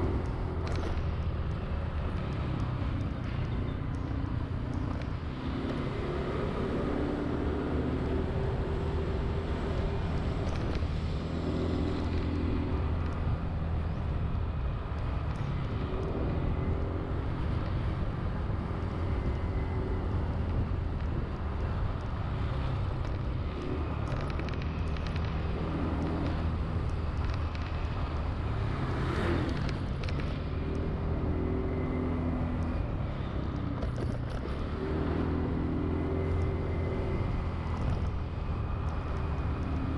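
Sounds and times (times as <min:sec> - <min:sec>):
road and traffic noise: 0:00.0 - 0:39.9.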